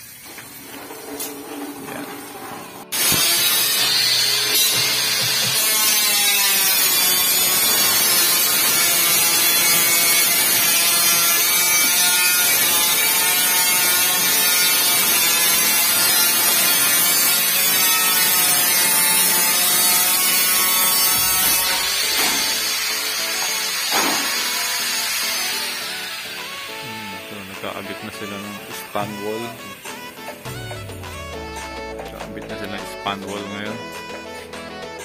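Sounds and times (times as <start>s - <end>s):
power tool cutting steel sheet: 0.0s - 30.8s.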